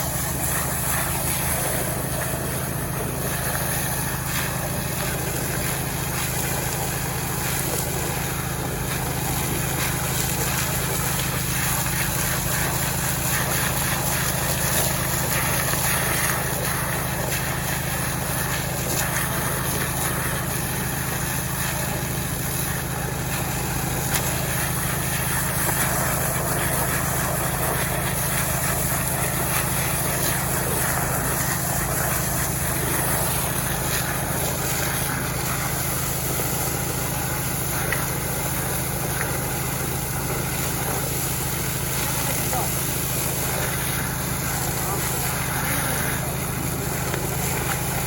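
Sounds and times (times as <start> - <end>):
small petrol engine running: 0.0 - 48.0.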